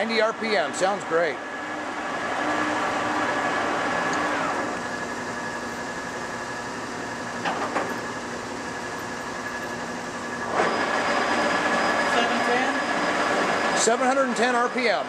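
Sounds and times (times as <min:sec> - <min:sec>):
lathe motor running with gear whine: 0:00.0 - 0:15.0
lathe spindle running down: 0:00.0 - 0:15.0.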